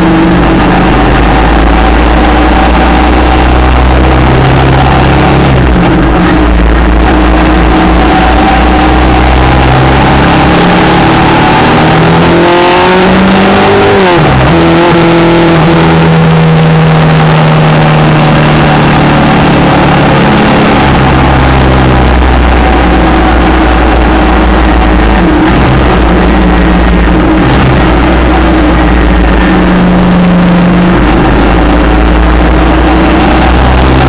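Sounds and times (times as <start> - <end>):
motorcycle engine under way: 0.0 - 34.0.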